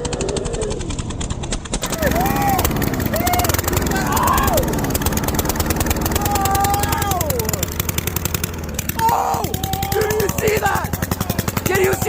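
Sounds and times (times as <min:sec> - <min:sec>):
lawn mower engine crackling: 0:00.0 - 0:12.0.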